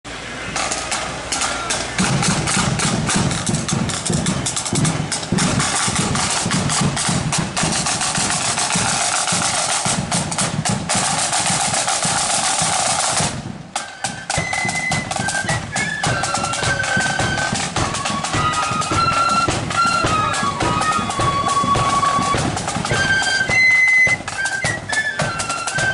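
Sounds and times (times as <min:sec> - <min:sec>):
flutes playing high melody: 0:00.5 - 0:25.9
snare and bass drums playing: 0:00.6 - 0:25.9.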